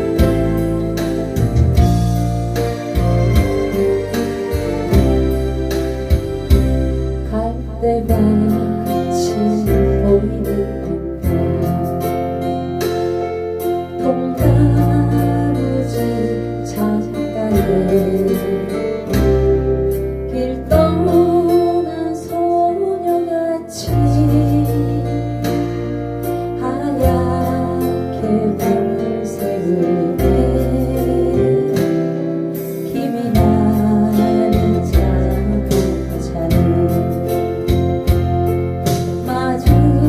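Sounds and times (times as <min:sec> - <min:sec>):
backing track with bass notes: 0:00.0 - 0:40.0
person singing ballad: 0:00.0 - 0:40.0.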